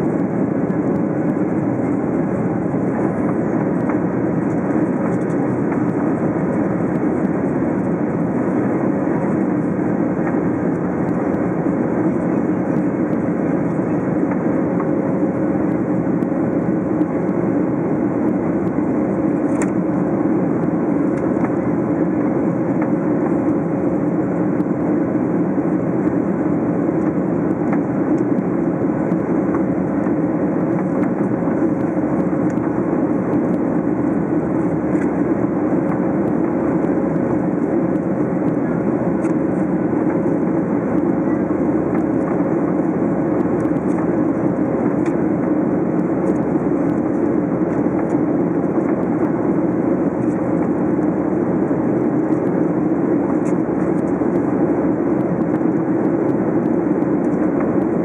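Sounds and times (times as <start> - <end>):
airplane cabin engine noise: 0.0 - 58.0
thin steady hum: 0.0 - 58.0.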